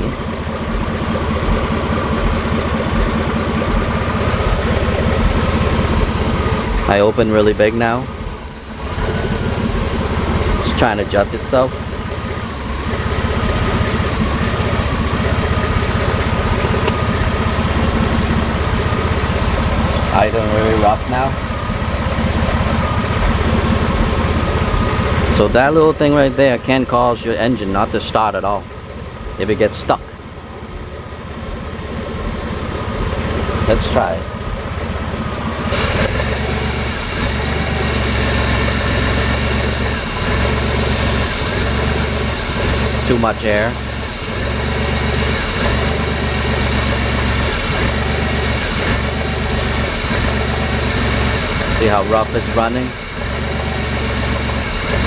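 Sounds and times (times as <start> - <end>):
engine idling roughly: 0.0 - 55.0.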